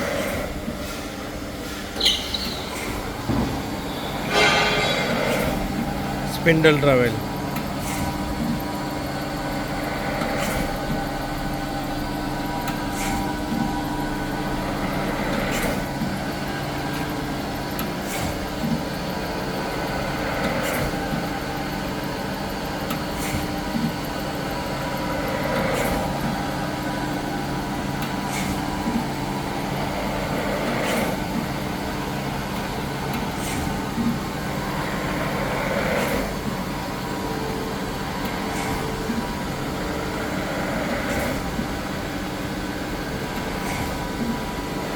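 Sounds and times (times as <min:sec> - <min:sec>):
machine hum: 0:00.0 - 0:44.9.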